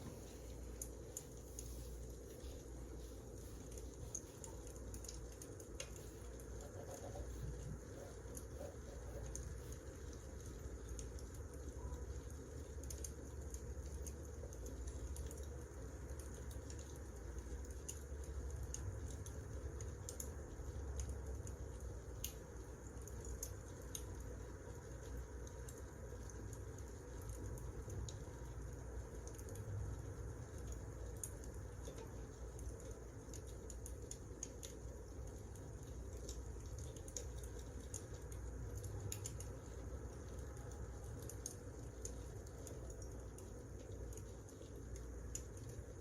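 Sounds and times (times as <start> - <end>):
fire crackling and popping: 0.0 - 46.0
low rumble of flames: 0.0 - 46.0.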